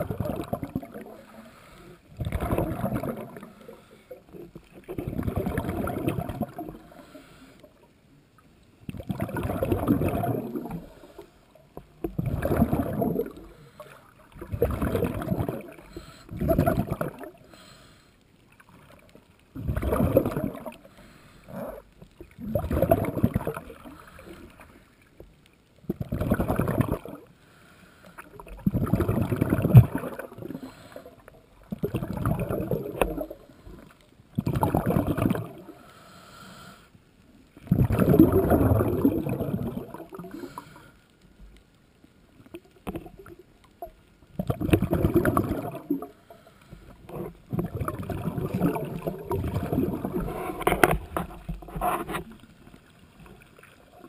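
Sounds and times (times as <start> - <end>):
scuba regulator bubbles underwater: 0.0 - 7.9, 8.8 - 36.7, 37.3 - 41.7, 42.3 - 54.0.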